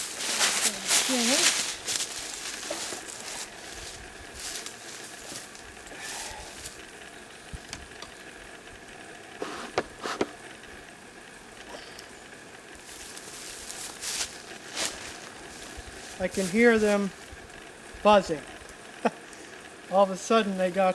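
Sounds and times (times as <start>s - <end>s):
bees humming: 0.0s - 20.9s.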